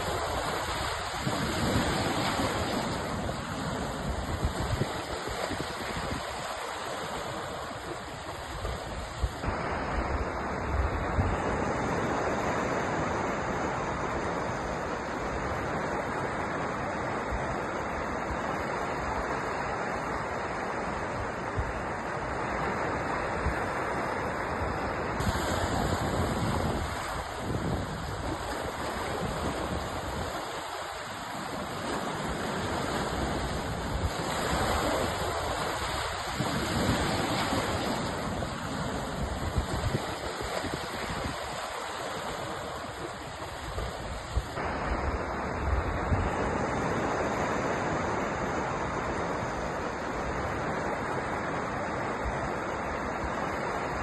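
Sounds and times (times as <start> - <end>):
sea waves rushing surf: 0.0 - 54.0.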